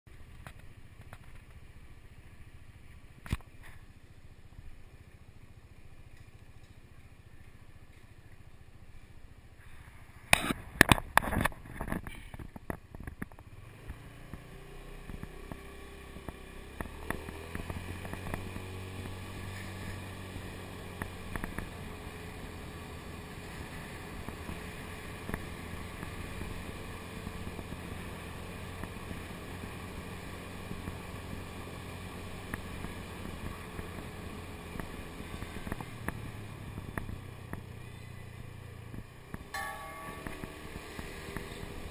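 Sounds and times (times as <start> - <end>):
scooter engine: 0.1 - 41.9
wind and road noise: 0.1 - 41.9.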